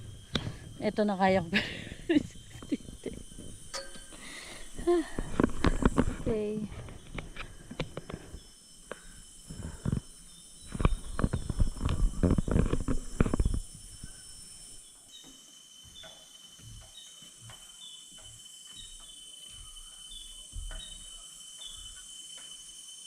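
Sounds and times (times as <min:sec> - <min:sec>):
insect chorus high drone: 0:00.0 - 0:23.0
short insect chirp: 0:00.0 - 0:23.0.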